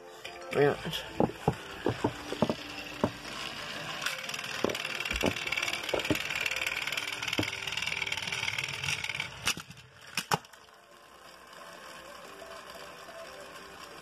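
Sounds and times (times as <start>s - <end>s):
toy train motors whirring: 0.2s - 14.0s
plastic toy trains clacking: 1.0s - 14.0s.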